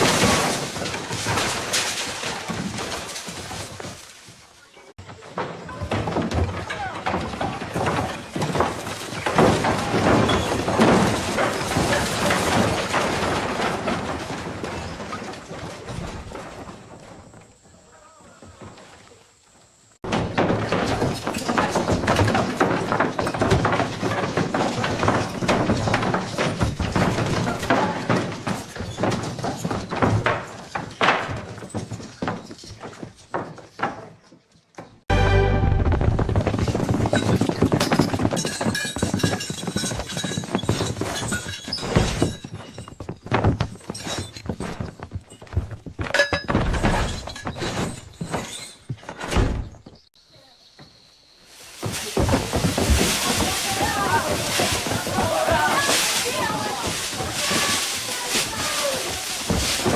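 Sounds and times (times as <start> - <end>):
clatter of knocks and bangs: 0.0 - 17.5, 20.0 - 35.1, 35.8 - 50.1, 51.8 - 59.9.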